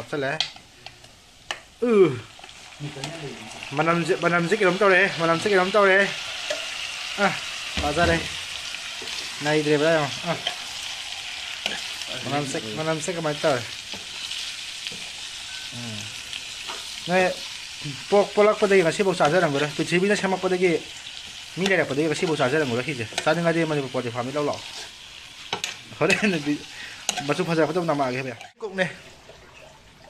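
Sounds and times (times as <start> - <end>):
meat sizzling in a frying pan: 0.1 - 28.6.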